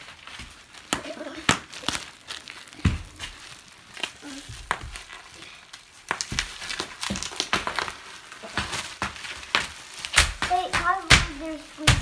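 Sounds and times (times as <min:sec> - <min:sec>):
bubble wrap popping: 0:00.0 - 0:12.0.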